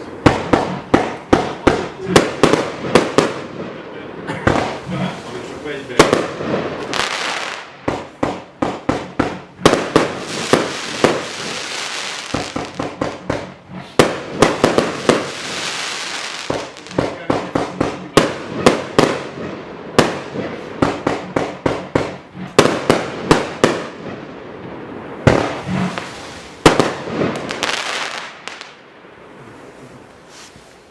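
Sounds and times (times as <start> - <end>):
firework launch thumps and bursts: 0.0 - 3.7, 5.6 - 24.2, 25.2 - 28.6
firework crackling and hiss: 0.0 - 30.9.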